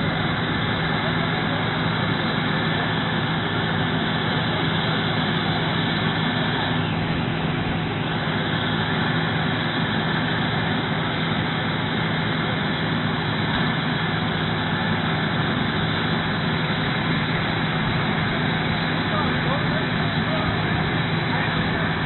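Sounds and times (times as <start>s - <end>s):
fire engine running: 0.0s - 22.0s.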